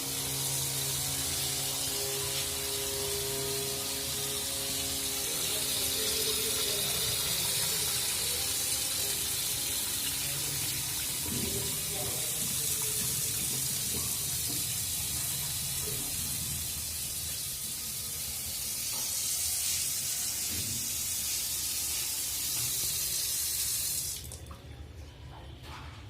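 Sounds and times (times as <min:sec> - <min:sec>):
water running from a tap into a sink: 0:00.0 - 0:24.6.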